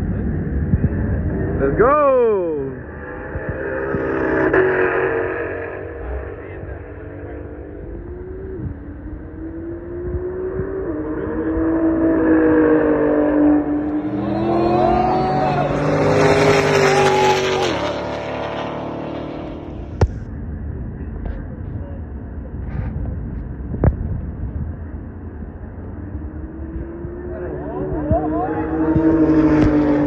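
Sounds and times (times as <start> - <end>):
cars racing at full throttle: 0.0 - 30.0.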